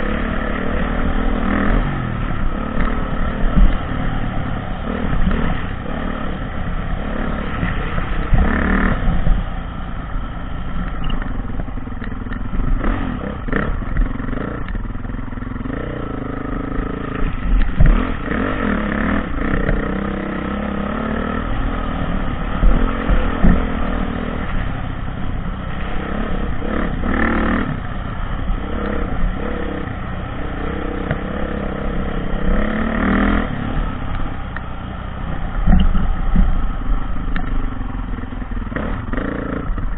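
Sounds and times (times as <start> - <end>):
dirt bike engine revving: 0.0 - 9.5, 11.1 - 34.4, 38.2 - 39.9.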